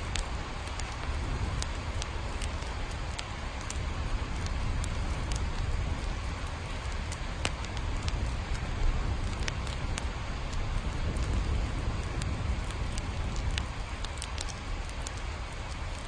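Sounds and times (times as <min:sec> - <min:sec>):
continuous low rumble: 0:00.0 - 0:16.0
raindrops ticking sharply: 0:00.0 - 0:16.0
steady rain: 0:00.0 - 0:16.0.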